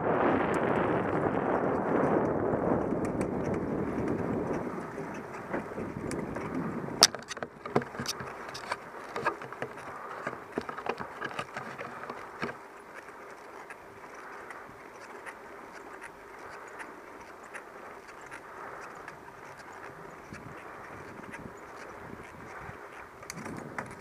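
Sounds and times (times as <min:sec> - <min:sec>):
tyre and wind rush: 0:00.0 - 0:17.2, 0:17.8 - 0:24.0
bike clicks and rattles: 0:00.4 - 0:24.0.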